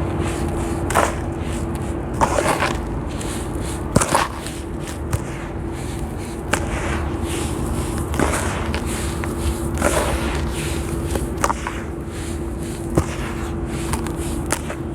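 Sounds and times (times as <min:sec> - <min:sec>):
sand blocks crumbling: 0:00.0 - 0:14.9
steady hum: 0:00.0 - 0:14.9.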